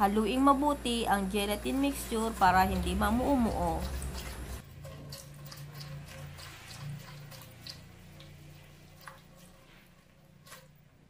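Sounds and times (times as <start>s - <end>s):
liquid swishing in a pot: 1.6s - 11.0s.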